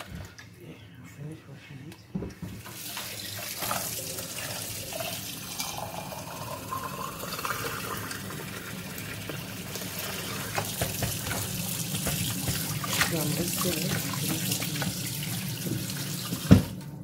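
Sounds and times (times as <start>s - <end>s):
tap water running into sink: 2.2s - 16.9s.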